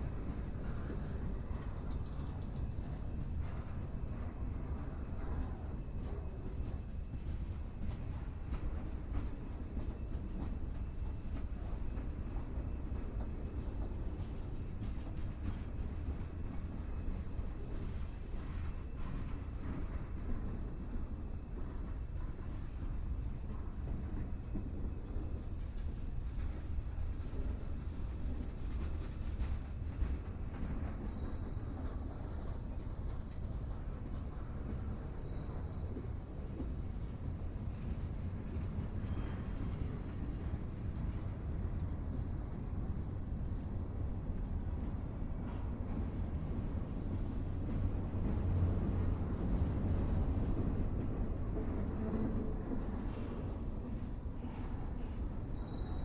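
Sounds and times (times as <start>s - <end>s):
train rumbling by: 0.0s - 56.0s.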